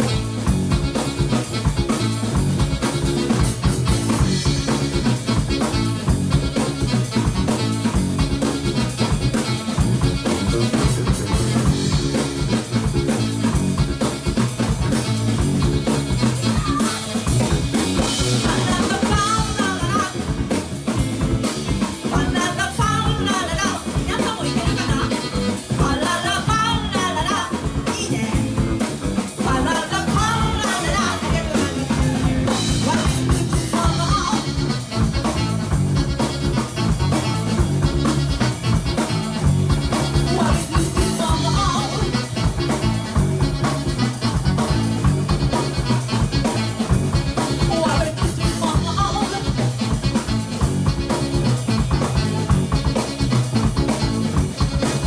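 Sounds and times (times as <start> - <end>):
drum kit beat: 0.0 - 55.0
live band playing: 0.0 - 55.0.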